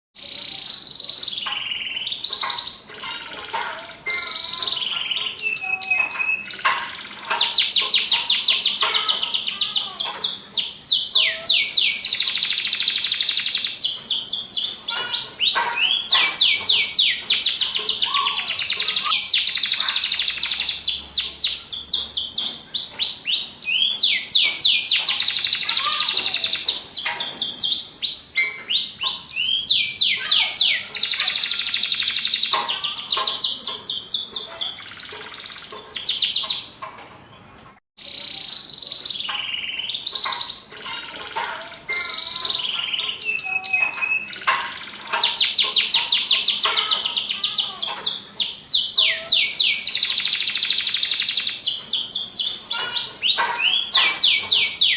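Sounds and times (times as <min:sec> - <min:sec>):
canary singing trills: 0:00.2 - 0:54.9.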